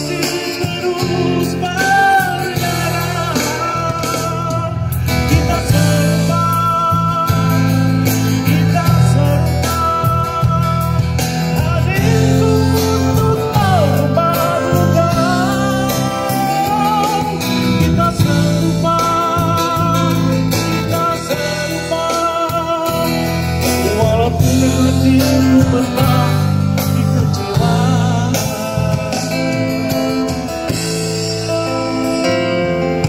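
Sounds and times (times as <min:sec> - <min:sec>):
acoustic guitar: 0:00.0 - 0:33.0
man singing with vibrato: 0:00.0 - 0:33.0.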